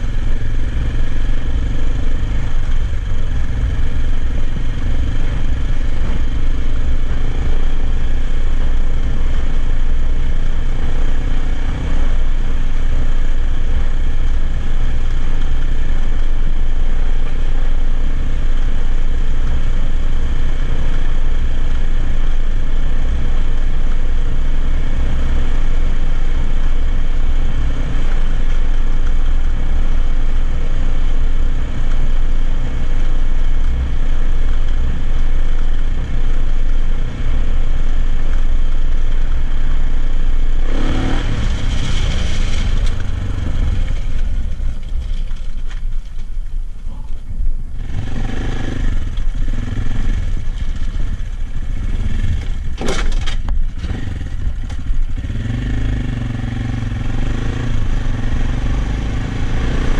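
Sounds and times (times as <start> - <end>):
motorcycle engine running: 0.0 - 59.9
rush of noise: 0.0 - 59.9
wind and road noise: 0.0 - 59.9.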